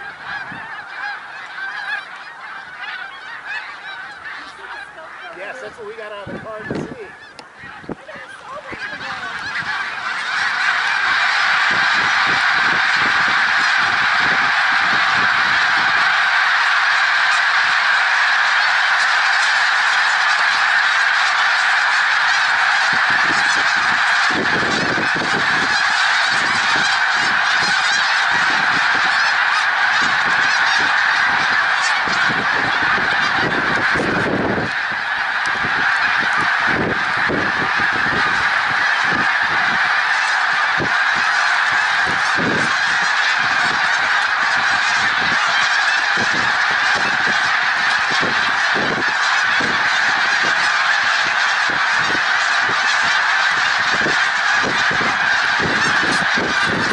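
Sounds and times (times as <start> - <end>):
flock of geese honking: 0.0 - 56.9.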